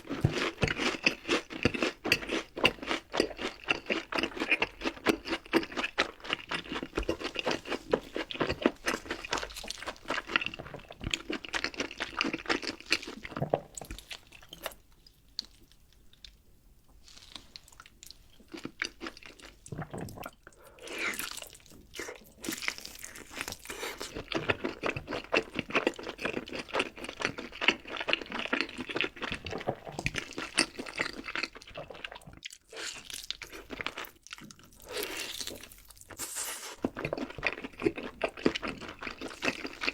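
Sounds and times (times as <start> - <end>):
food crunching while chewed: 0.0 - 16.4, 17.0 - 39.9.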